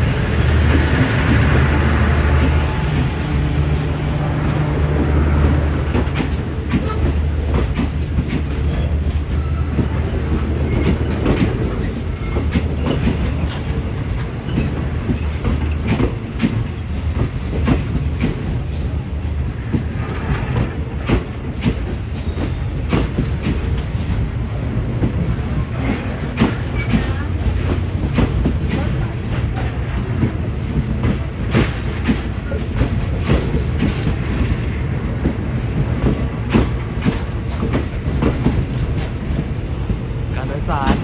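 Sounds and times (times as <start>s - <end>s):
train wheels clicking over rail joints: 0.0s - 41.0s.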